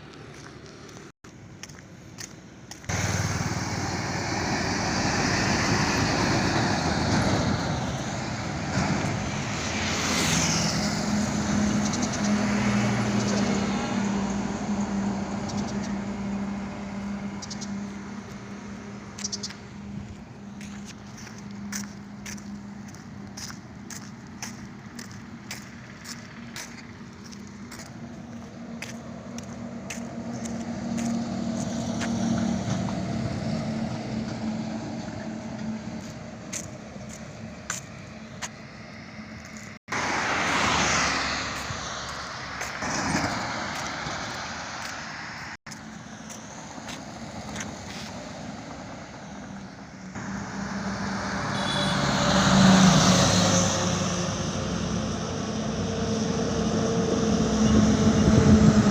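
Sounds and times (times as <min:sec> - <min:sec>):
highway traffic: 0:00.0 - 0:58.9.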